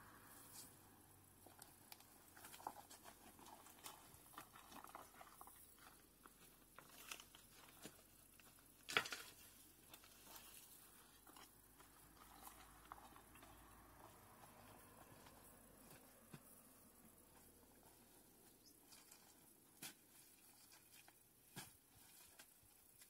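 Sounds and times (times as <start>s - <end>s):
dry brush rustling and crackling: 1.4s - 23.0s.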